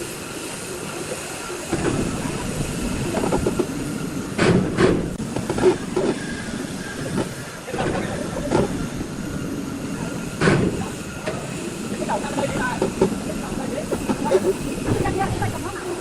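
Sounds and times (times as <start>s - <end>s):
steady machine noise: 0.0s - 16.0s.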